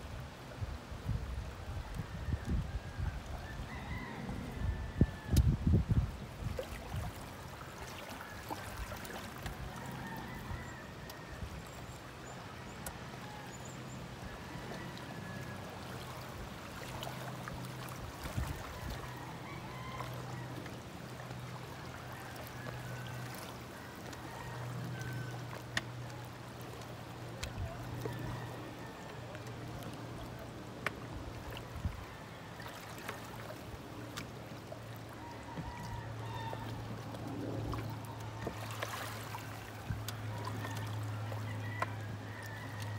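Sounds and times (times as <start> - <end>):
water lapping: 6.0 - 42.9.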